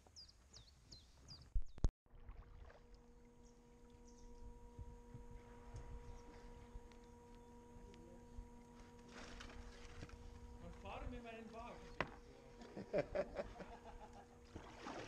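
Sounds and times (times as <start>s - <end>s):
faint steady tonal hum: 2.2s - 15.0s.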